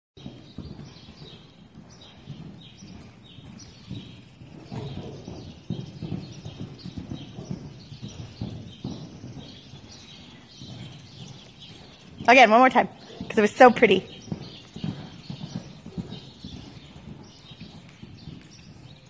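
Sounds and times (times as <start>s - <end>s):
hooves cantering on sand: 0.2s - 19.0s.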